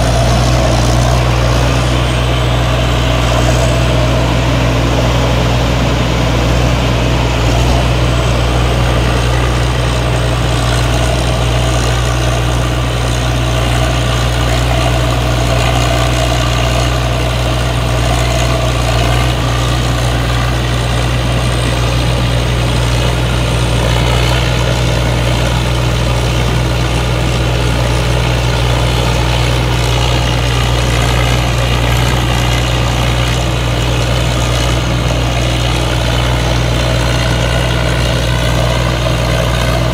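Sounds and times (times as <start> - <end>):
combine harvester engine hum: 0.0 - 39.9
threshing machinery noise: 0.0 - 39.9.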